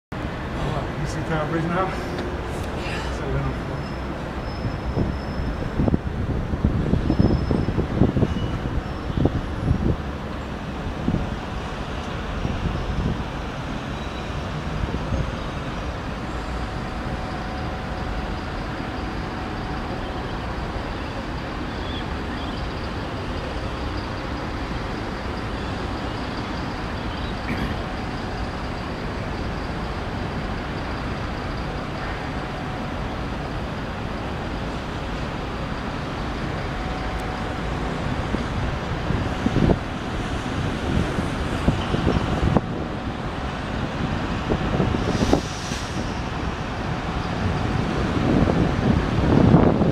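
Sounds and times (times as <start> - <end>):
city traffic hum: 0.1 - 49.9.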